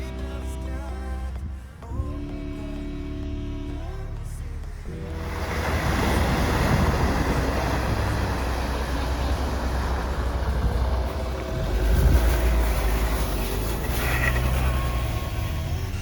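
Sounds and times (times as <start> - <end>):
off-road vehicle driving: 0.0 - 16.0.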